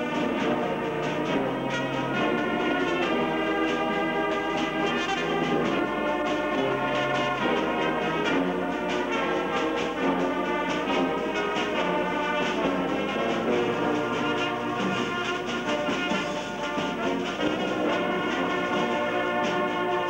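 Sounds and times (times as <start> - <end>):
brass band playing: 0.0 - 20.0
drum beats: 0.0 - 20.0.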